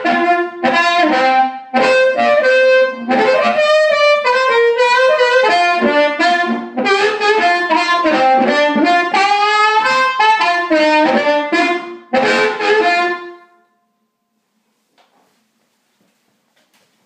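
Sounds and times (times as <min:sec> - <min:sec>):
amplified harmonica bending notes: 0:00.0 - 0:13.8.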